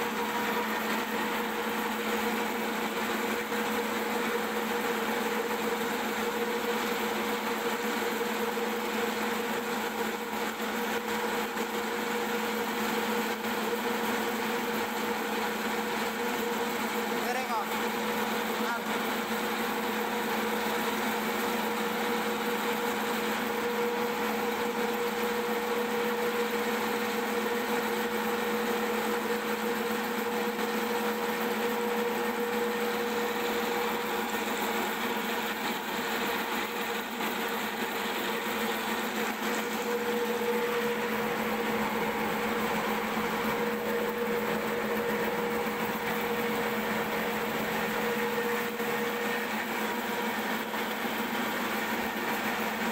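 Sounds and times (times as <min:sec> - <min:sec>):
motor hum: 0:00.0 - 0:17.7, 0:26.1 - 0:52.9.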